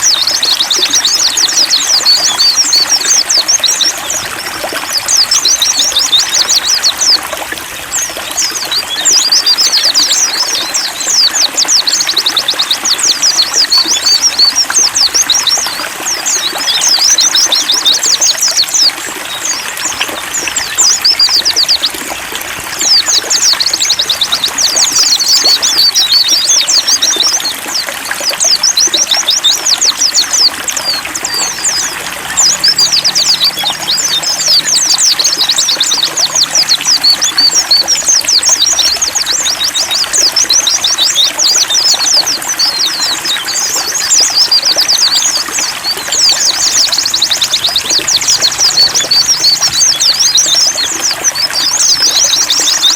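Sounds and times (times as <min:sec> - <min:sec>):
birds twittering: 0:00.0 - 0:52.9
water trickling: 0:00.0 - 0:52.9.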